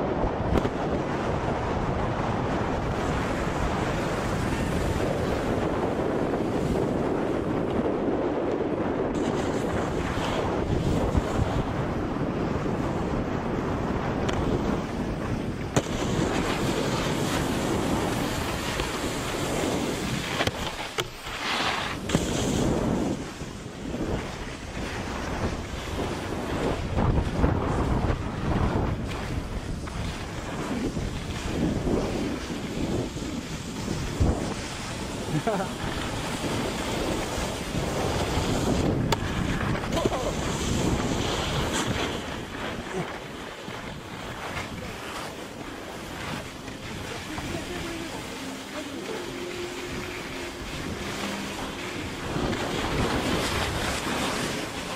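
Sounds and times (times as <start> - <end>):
snowboard scraping: 0.0 - 54.9
snowboard sliding on snow: 0.0 - 54.9
wind rushing over microphone: 0.0 - 54.9.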